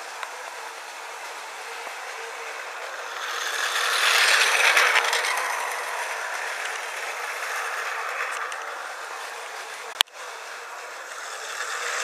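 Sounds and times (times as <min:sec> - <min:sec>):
toy train motor and wheels clattering: 0:00.0 - 0:12.0.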